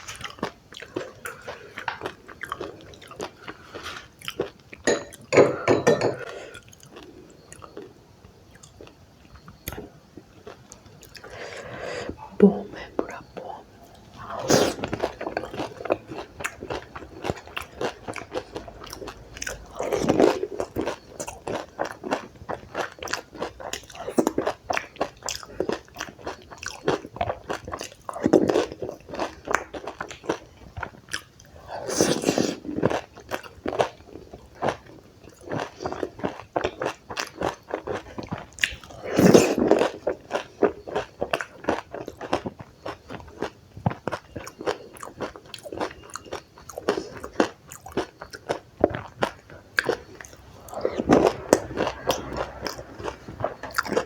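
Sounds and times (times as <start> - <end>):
crunchy chewing: 0.0 - 5.3, 13.0 - 54.0.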